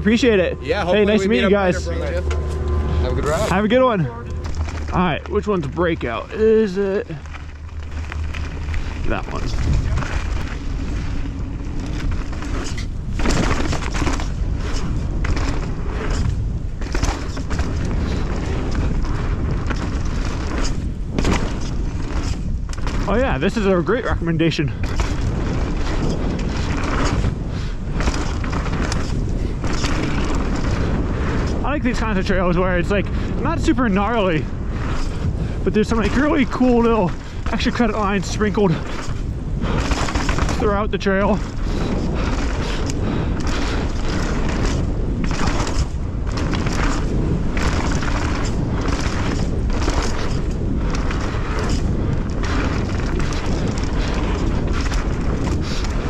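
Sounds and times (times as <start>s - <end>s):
bike rattling and knocking: 0.0s - 56.0s
wind buffeting microphone: 0.0s - 56.0s
tyre noise on dirt: 3.3s - 56.0s.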